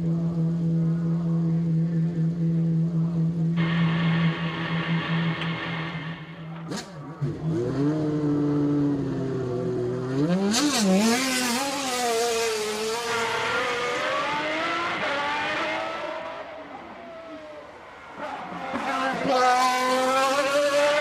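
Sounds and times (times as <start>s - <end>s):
race car engine revving: 3.6s - 17.5s, 18.1s - 21.0s.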